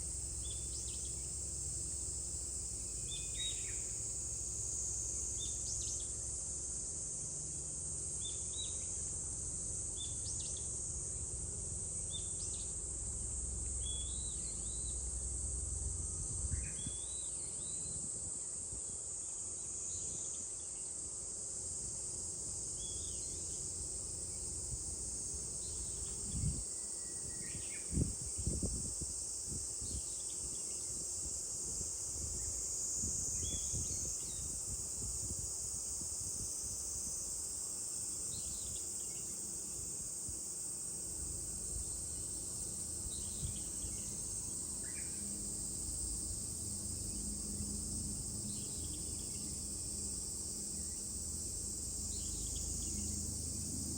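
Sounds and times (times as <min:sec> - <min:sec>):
cicada chorus drone: 0:00.0 - 0:53.9.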